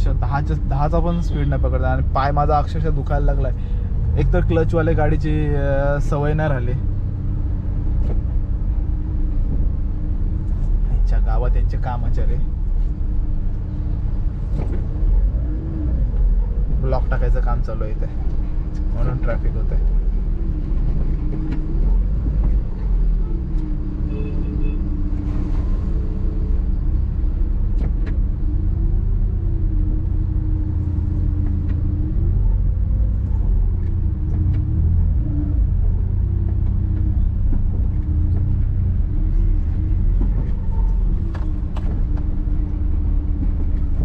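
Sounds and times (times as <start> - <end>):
car engine rumbling: 0.0 - 44.0.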